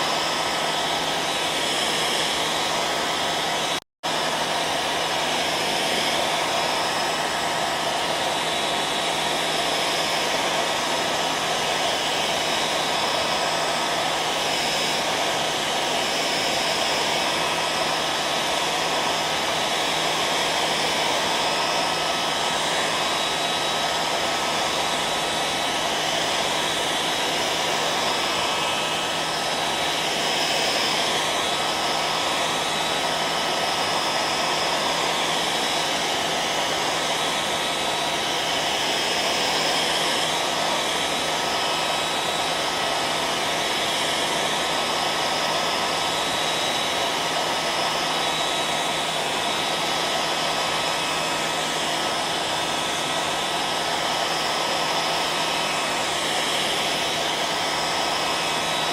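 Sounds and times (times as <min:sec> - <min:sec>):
hair dryer blowing air: 0:00.0 - 0:58.9.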